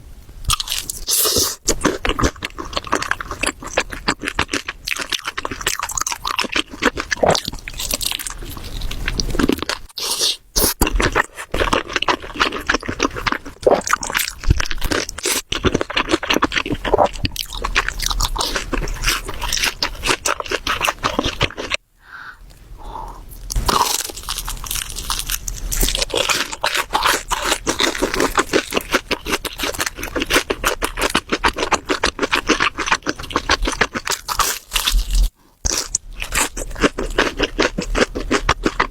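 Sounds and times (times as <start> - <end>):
person chewing crunchy food: 0.5 - 38.9.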